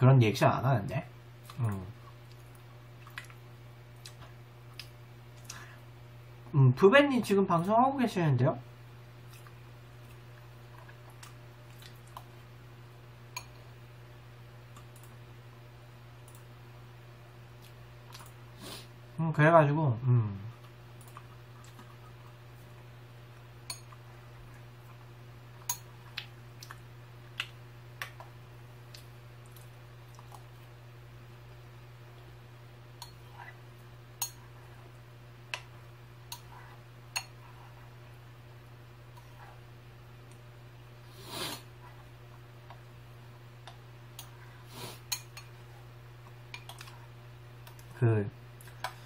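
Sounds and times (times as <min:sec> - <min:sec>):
steady low hum: 0:00.0 - 0:49.0
soft eating noises: 0:00.9 - 0:06.8, 0:08.6 - 0:19.2, 0:20.0 - 0:49.0.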